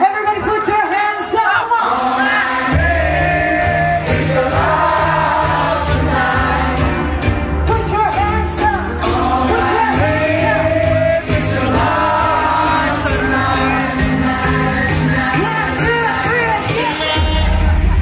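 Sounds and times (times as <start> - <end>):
live pop-rock music: 0.0 - 18.0
heavy bass: 2.7 - 18.0.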